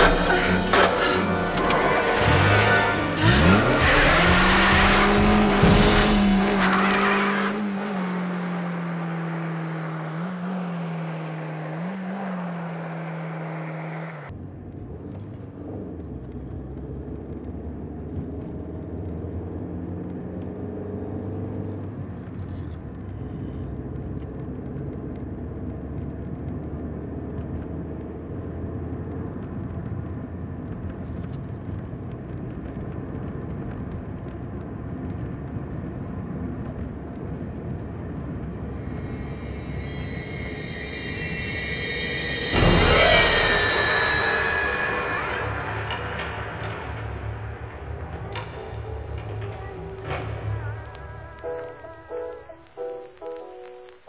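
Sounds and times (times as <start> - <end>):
car engine running hard: 0.0 - 50.2
tyres skidding: 0.0 - 51.6.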